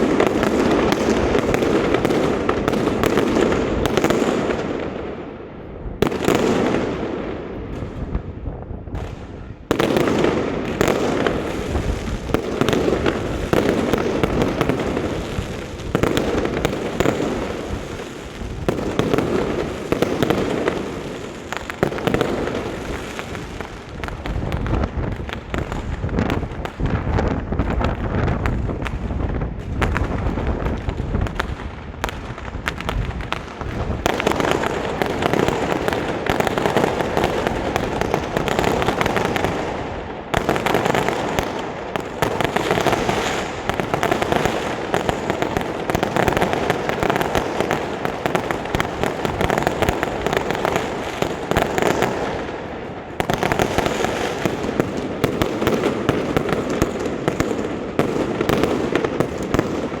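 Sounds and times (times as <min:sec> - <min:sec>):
fireworks crackling and popping: 0:00.0 - 1:00.0.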